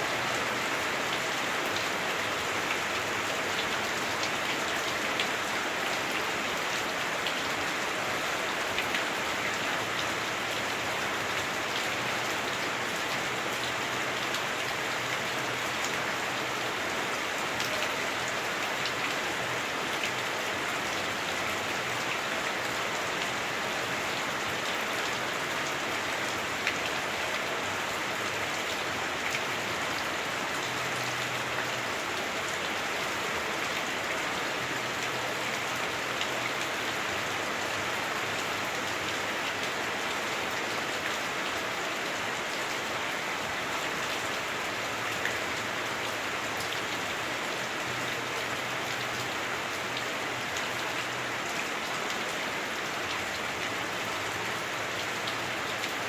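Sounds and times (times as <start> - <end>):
heavy rain on roof: 0.0 - 56.0.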